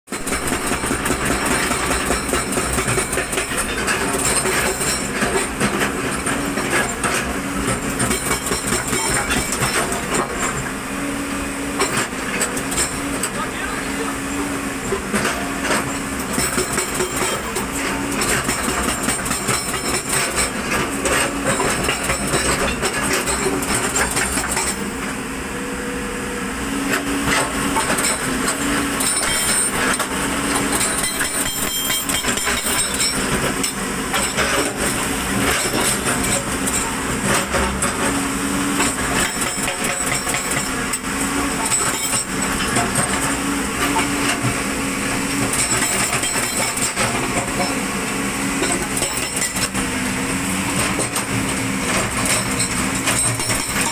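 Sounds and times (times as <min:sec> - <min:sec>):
hydraulic rock breaker hammering: 0:00.1 - 0:10.9, 0:11.5 - 0:25.1, 0:26.9 - 0:53.9
diesel engine running: 0:00.2 - 0:53.9.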